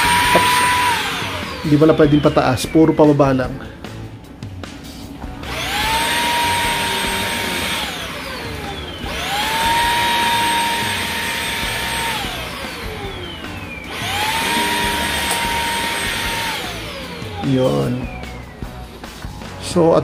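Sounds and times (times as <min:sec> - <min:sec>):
stick vacuum motor whining: 0:00.0 - 0:03.0, 0:05.4 - 0:19.0.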